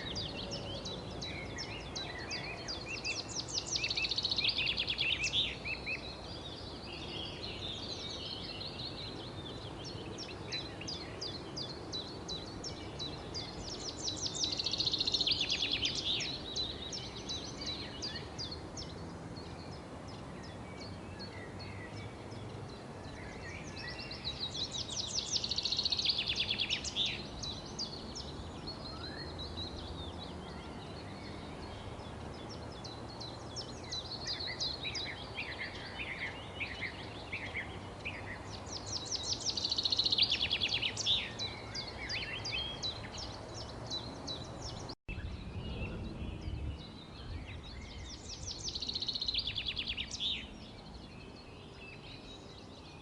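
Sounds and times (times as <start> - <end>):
birds chirping and twittering: 0.0 - 53.0
low background noise: 0.0 - 53.0.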